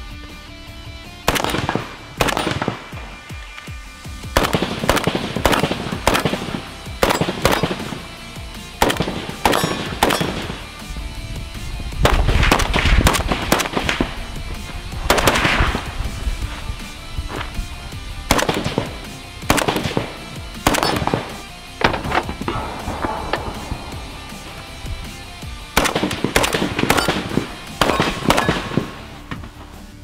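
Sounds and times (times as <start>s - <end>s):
background music: 0.0s - 30.0s
rifle gunshots: 1.3s - 10.9s, 12.0s - 29.6s.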